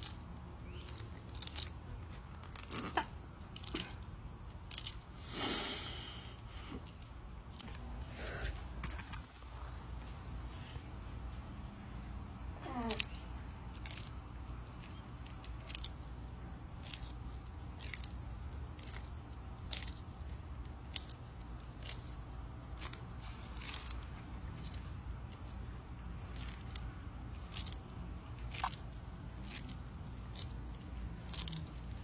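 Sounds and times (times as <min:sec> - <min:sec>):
tortoise chewing crunchy cactus: 0:00.0 - 0:32.0.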